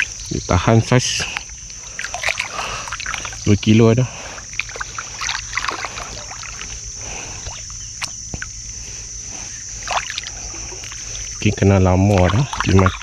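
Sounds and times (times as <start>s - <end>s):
steady high-pitched whine: 0.0s - 13.0s
water splashing and dripping: 1.2s - 8.6s, 9.7s - 13.0s.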